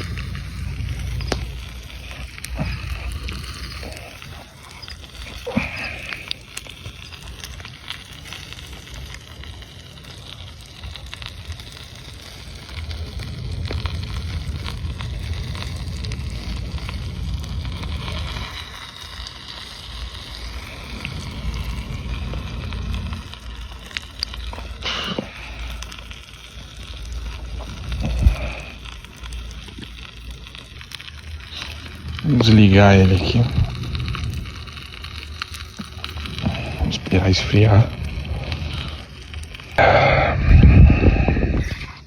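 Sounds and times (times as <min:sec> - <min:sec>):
fire crackles and pops: 0:00.0 - 0:42.0
fire low rumble: 0:00.0 - 0:42.0.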